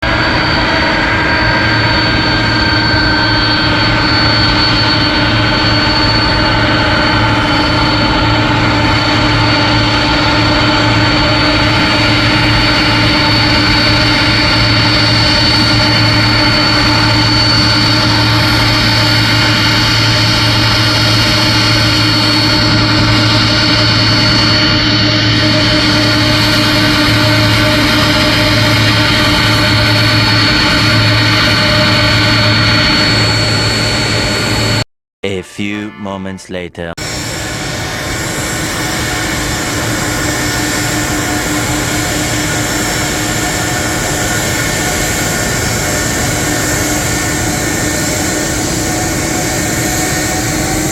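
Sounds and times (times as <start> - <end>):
jet engines idling whine: 0.0 - 34.8, 37.0 - 50.9.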